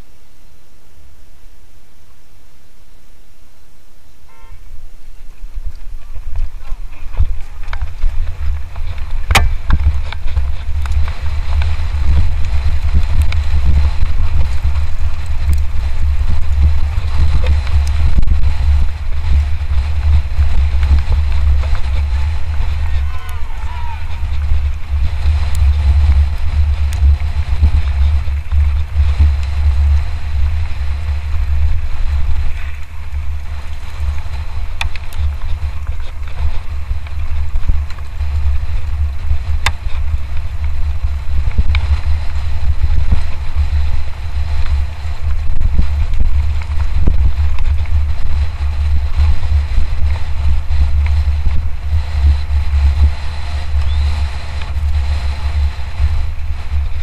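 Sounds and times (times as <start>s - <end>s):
wind rumble on microphone: 0.0s - 57.0s
bike clicks and rattles: 4.3s - 57.0s.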